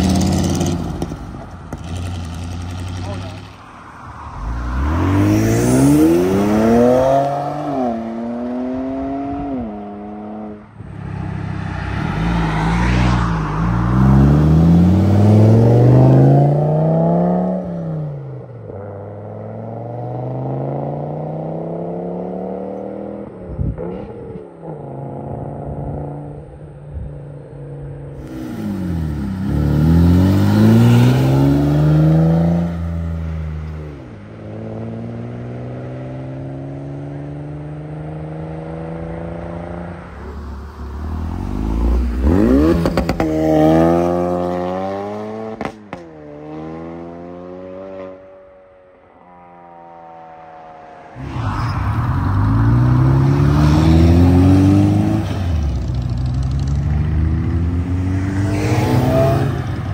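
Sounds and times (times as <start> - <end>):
car engines accelerating hard: 4.2 - 26.7, 27.8 - 48.2, 51.1 - 59.9.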